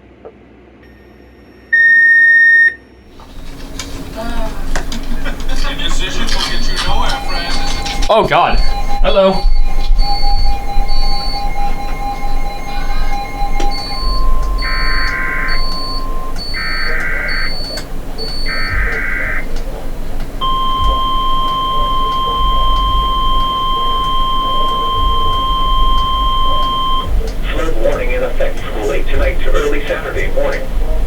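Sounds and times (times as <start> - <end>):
steady tones: 3.1 - 31.0
faint quick beeping: 3.2 - 30.9
long steady alert tone: 3.2 - 31.0
screechy digital data bursts: 3.2 - 31.0.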